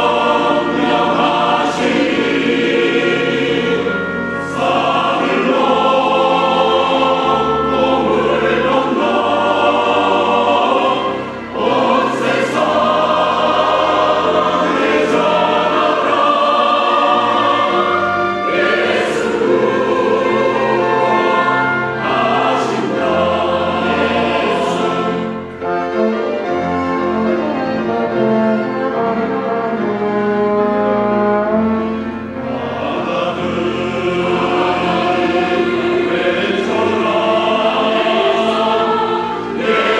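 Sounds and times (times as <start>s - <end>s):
choir singing: 0.0s - 39.9s
instrumental accompaniment: 0.0s - 39.9s.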